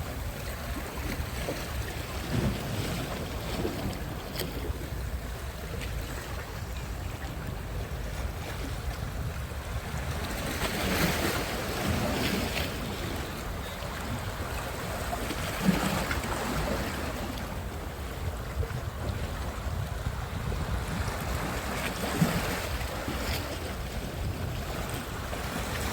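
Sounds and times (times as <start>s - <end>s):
waves washing onto shore: 0.0s - 25.9s
wind rumble on microphone: 0.0s - 25.9s.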